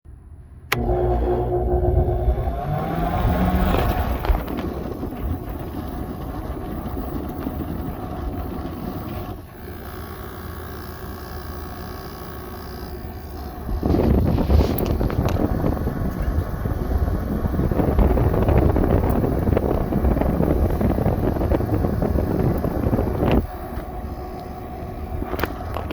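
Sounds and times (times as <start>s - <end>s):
air conditioner fan running: 0.6s - 25.9s.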